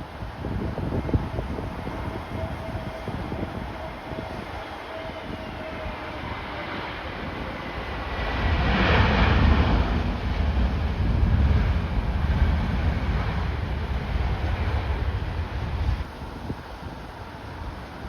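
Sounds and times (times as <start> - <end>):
jet airliner passing close: 0.0 - 18.0
wind buffeting on microphone: 0.0 - 18.0.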